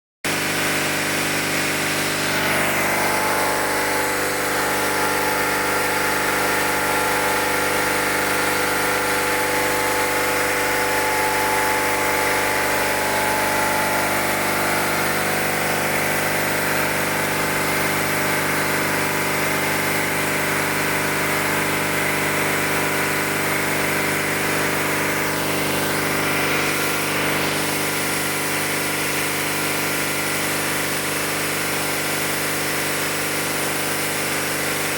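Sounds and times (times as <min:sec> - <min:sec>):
pump engine running: 0:00.3 - 0:34.9.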